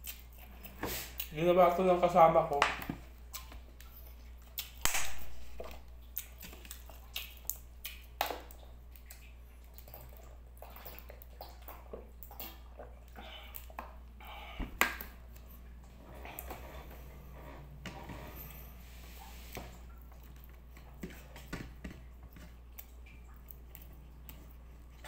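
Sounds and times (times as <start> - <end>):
chewing with mouth clicks: 0.0 - 1.4, 3.1 - 17.7, 18.4 - 25.0.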